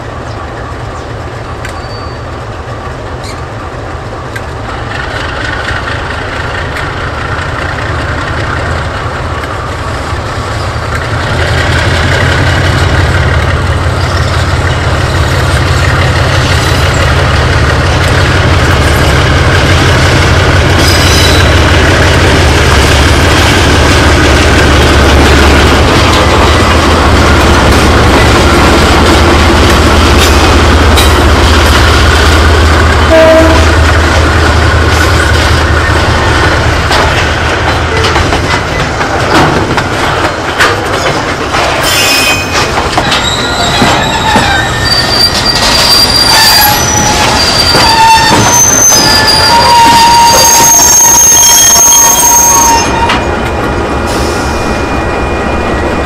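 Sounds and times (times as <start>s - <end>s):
diesel locomotives droning: 0.0s - 56.0s.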